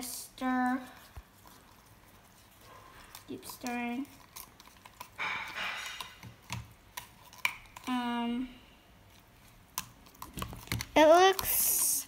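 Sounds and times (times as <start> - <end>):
knife stirring thick slime: 0.0 - 8.3, 8.9 - 12.0.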